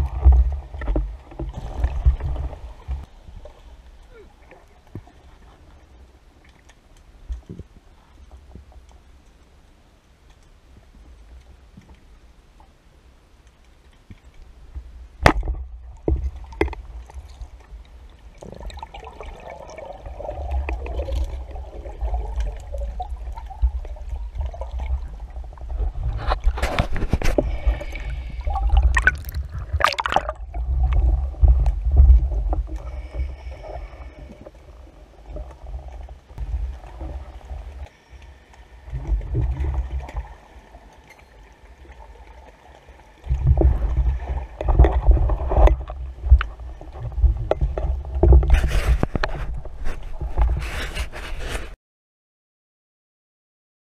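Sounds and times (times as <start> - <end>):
muffled underwater sloshing: 0.0 - 9.6, 14.0 - 51.7.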